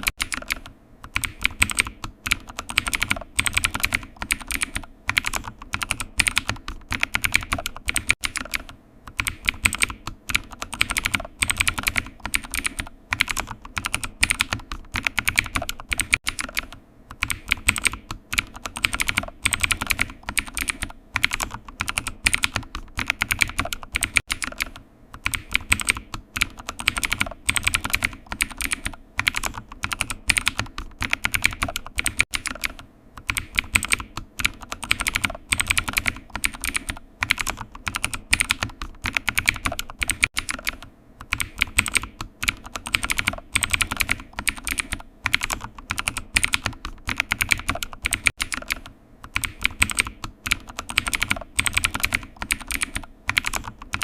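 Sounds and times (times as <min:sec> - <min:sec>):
typing on computer keyboard: 0:00.0 - 0:54.0.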